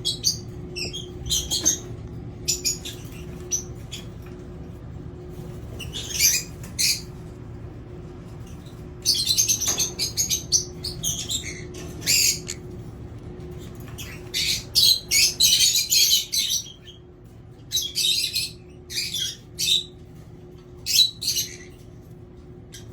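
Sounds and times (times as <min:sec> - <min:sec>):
lovebirds calling: 0:00.0 - 0:04.7, 0:05.3 - 0:07.4, 0:08.0 - 0:22.0
steady low hum: 0:00.0 - 0:22.9.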